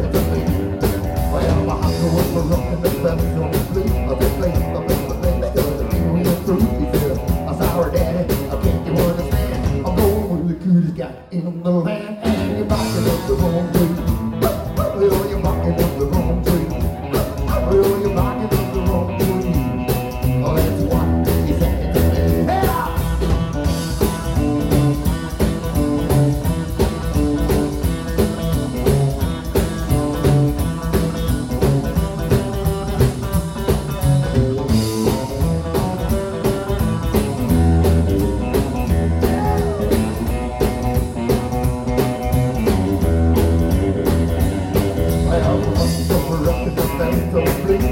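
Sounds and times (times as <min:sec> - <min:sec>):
drum kit: 0:00.0 - 0:10.5, 0:12.2 - 0:47.9
upright double bass: 0:00.0 - 0:10.5, 0:12.2 - 0:47.9
electric guitar: 0:00.0 - 0:47.9.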